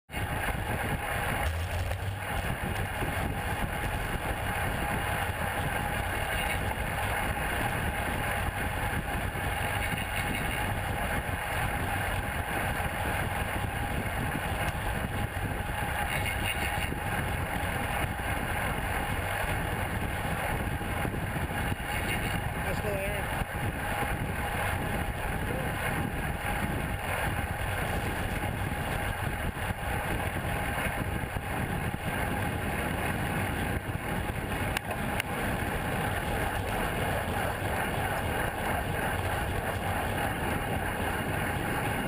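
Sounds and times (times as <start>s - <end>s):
tyres on asphalt: 0.1s - 42.0s
wind rush: 0.1s - 42.0s.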